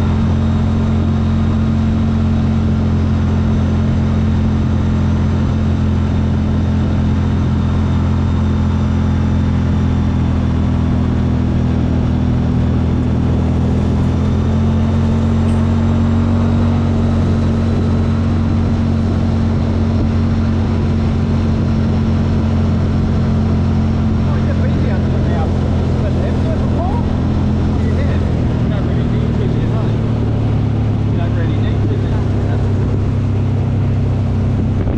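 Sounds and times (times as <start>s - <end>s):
engine droning: 0.0s - 34.9s.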